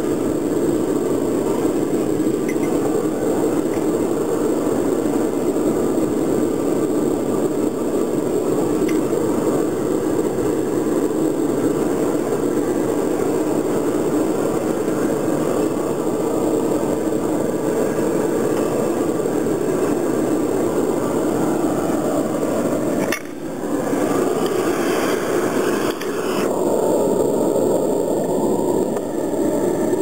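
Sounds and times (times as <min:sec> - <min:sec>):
furnace air blast roaring: 0:00.0 - 0:30.0.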